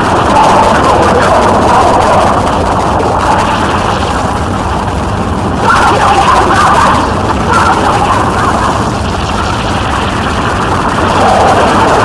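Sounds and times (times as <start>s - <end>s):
harsh distorted noise music: 0.0s - 12.0s.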